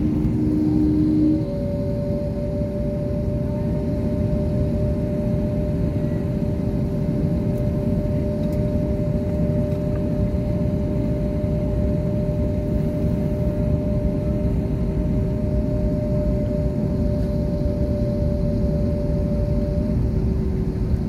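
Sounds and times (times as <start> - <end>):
constant hum tones: 0.0 - 21.0
jet engines idling rumble: 0.0 - 21.0.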